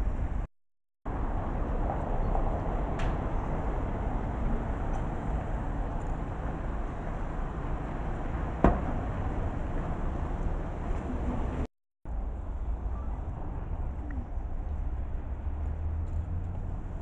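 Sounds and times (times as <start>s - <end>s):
city traffic rumble: 1.1s - 17.0s.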